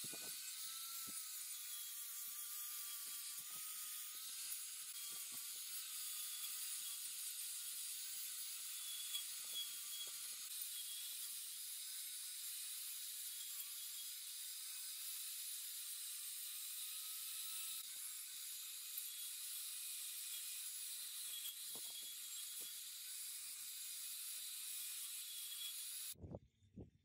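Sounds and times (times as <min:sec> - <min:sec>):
angle grinder grinding metal: 0:00.0 - 0:26.2.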